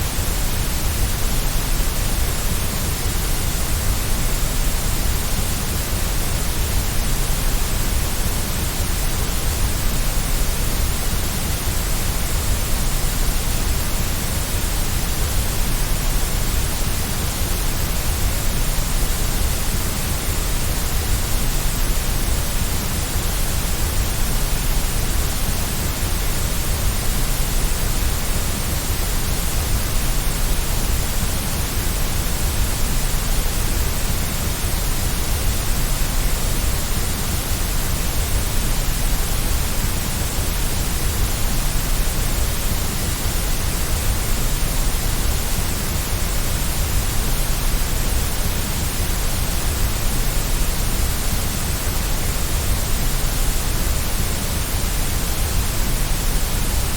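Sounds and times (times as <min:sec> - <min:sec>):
steady white noise: 0:00.0 - 0:56.9.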